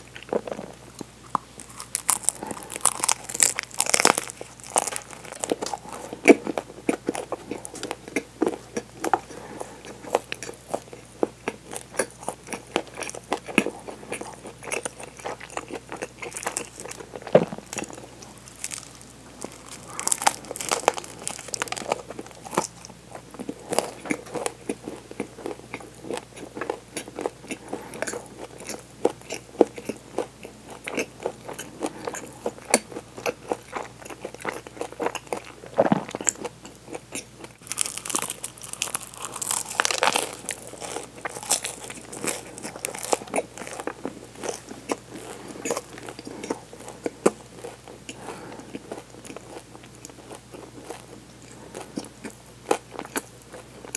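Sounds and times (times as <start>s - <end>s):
crunching and chewing: 0.0s - 53.9s
biting into pastry: 0.2s - 53.9s.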